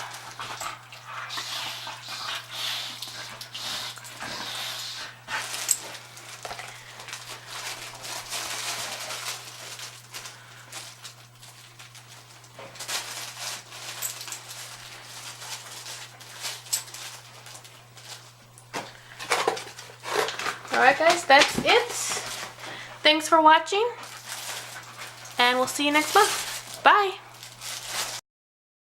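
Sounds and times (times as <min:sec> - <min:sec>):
dogs rustling: 0:00.0 - 0:28.2
steady low hum: 0:00.0 - 0:28.2.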